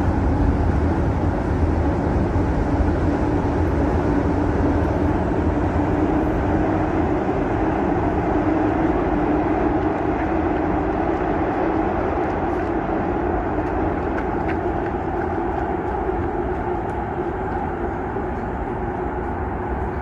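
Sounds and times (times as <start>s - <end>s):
subway train rumbling on bridge: 0.0s - 20.0s.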